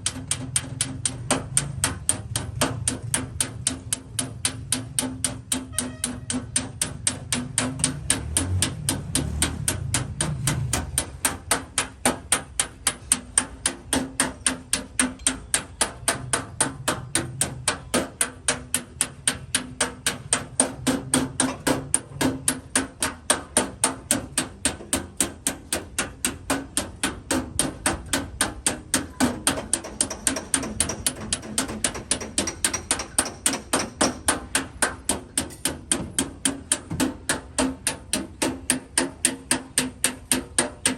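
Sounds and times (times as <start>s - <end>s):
hammer tapping sheet metal: 0.0s - 40.9s.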